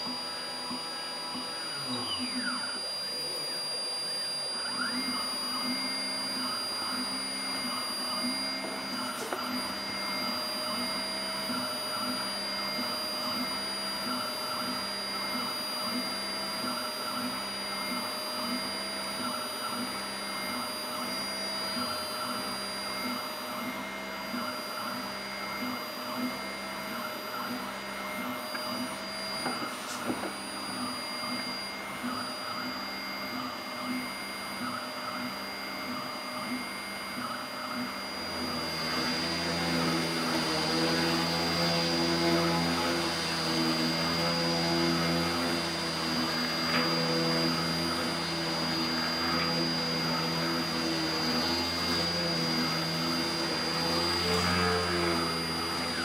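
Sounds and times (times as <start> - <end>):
axis motors: 0.0 - 56.0
cnc spindle drilling wood: 0.0 - 56.0.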